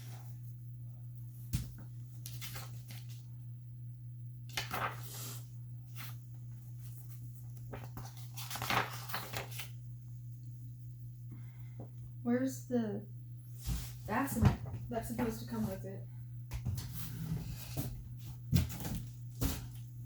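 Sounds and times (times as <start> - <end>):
low hum: 0.0 - 18.4.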